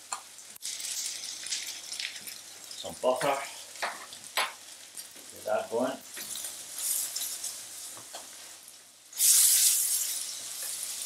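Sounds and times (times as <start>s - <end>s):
butter sizzling in a dish: 0.0s - 11.0s.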